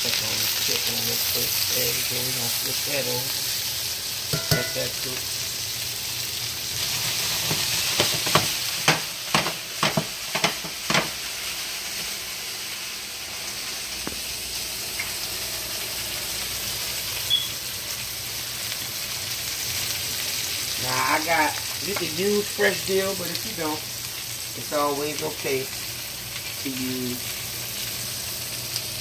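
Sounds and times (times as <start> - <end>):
chicken sizzling in a pan: 0.0 - 29.0.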